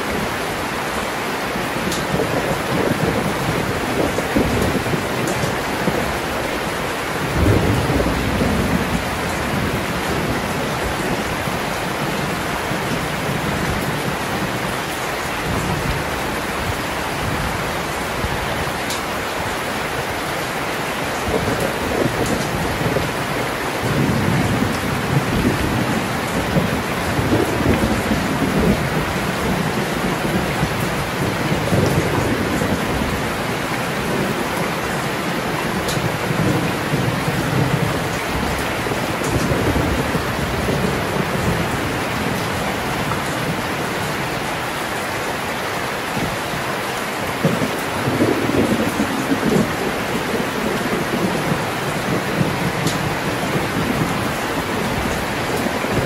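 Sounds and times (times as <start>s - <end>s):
heavy rain pouring: 0.0s - 56.0s
low rolling thunder: 1.8s - 14.8s, 21.1s - 44.4s, 47.2s - 56.0s.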